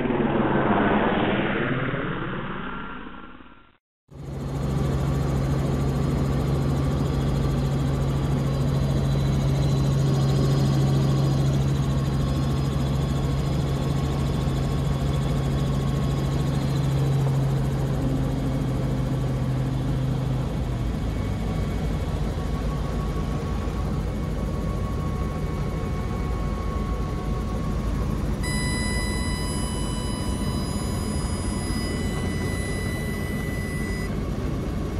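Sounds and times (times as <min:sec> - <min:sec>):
helicopter engine and rotor droning: 0:04.1 - 0:34.9.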